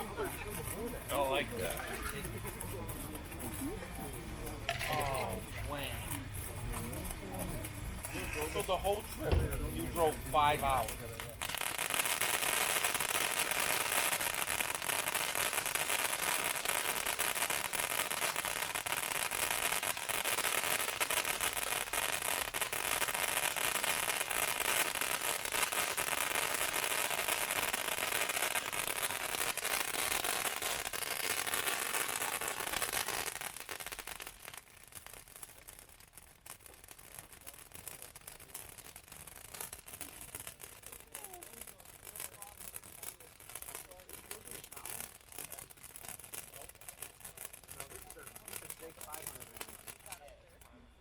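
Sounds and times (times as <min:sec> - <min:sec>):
firework spraying with crackling hiss: 0:00.0 - 0:51.0.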